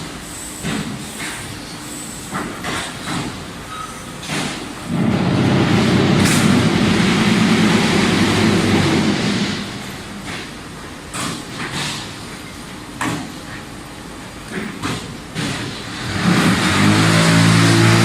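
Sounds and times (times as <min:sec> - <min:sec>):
block making machine humming: 0:02.2 - 0:13.4, 0:14.3 - 0:18.0.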